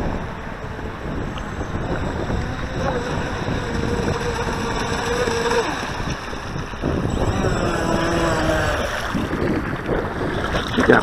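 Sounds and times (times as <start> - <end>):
wind rumble on microphone: 0.0 - 11.0
electric motor whining: 0.2 - 9.3.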